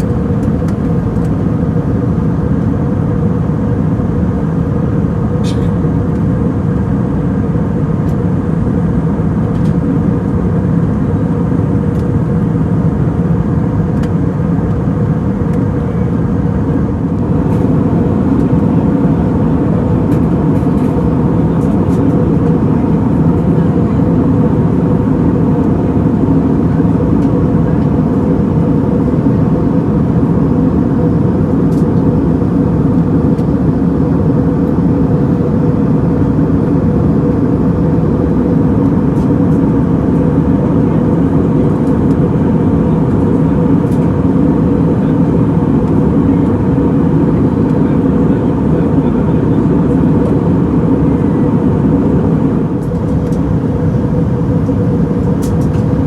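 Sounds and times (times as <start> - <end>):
airplane cabin engine rumble: 0.0 - 56.0
faint steady hum: 0.0 - 56.0.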